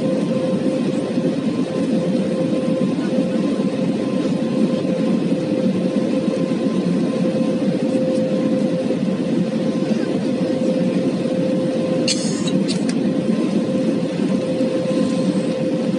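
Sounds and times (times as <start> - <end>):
aircraft cabin engine rush: 0.0 - 15.9
constant hum: 0.0 - 15.9.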